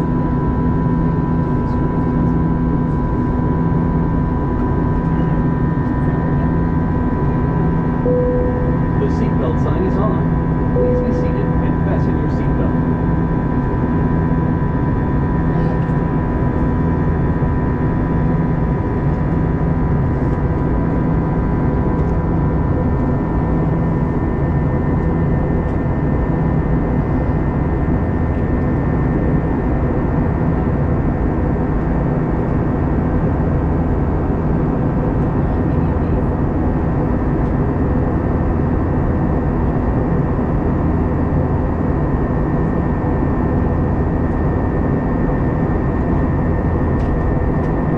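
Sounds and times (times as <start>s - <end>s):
jet engine cabin rumble: 0.0s - 47.9s
steady humming tones: 0.0s - 47.9s.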